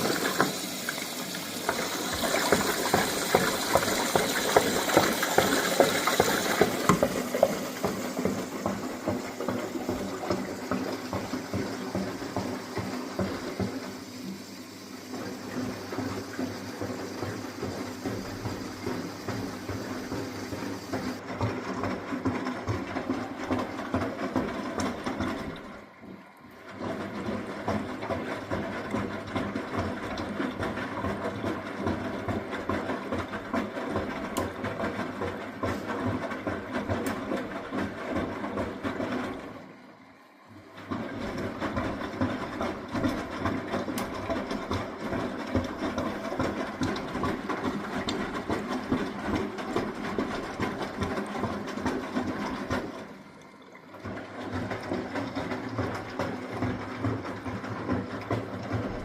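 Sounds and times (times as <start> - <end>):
washing machine drum tumbling: 0.0 - 25.9, 26.7 - 39.6, 40.8 - 59.0.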